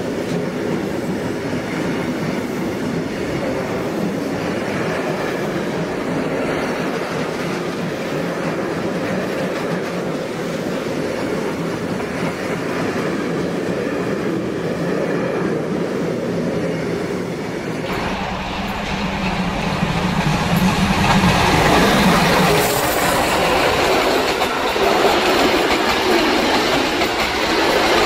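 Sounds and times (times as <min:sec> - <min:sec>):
steam locomotive rumbling: 0:00.0 - 0:28.0
steam train running: 0:00.0 - 0:28.0.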